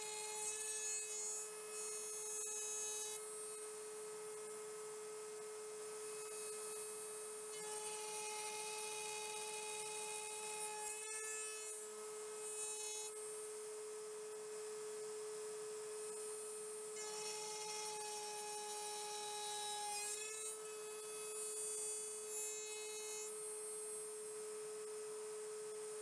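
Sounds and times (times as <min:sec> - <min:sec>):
router bit cutting wood hiss: 0:00.0 - 0:04.6, 0:05.3 - 0:13.5, 0:16.0 - 0:24.2
router high whine: 0:00.0 - 0:26.0.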